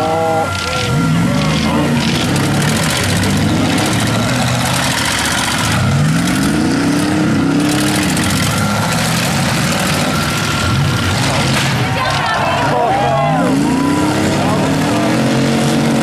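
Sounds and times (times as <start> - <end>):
car engines running hard: 0.0 - 16.0
engine revving in rising whine: 0.0 - 16.0.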